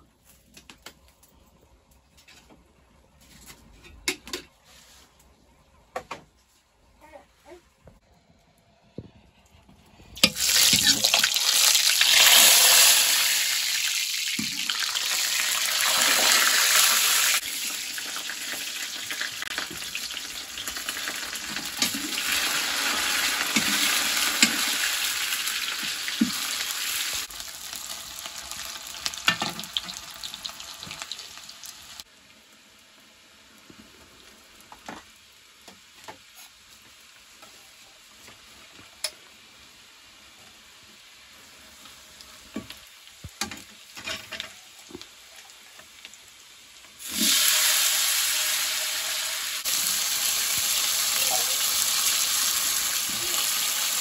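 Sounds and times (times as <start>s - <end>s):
food sizzling in hot oil: 10.2s - 37.6s, 38.2s - 54.0s.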